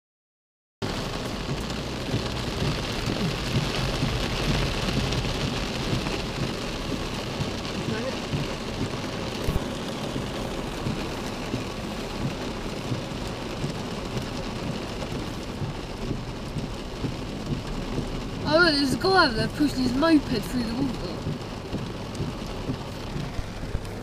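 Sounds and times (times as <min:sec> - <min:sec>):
heavy rain on car roof: 0:00.8 - 0:24.0.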